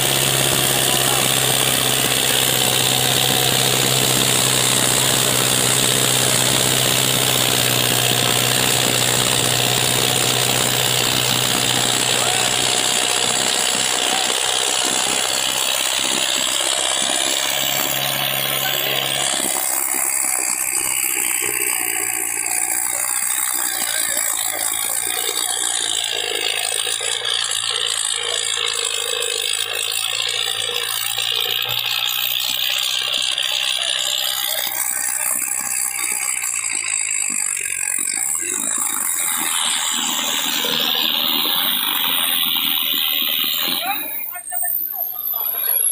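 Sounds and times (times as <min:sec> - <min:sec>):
tractor diesel engine labouring: 0:00.0 - 0:45.9
tyres spinning in sandy soil: 0:00.0 - 0:45.9.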